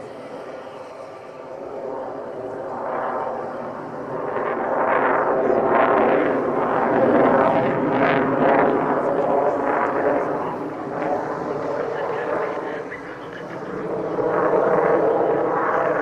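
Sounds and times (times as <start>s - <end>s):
jet roar: 0.0s - 16.0s.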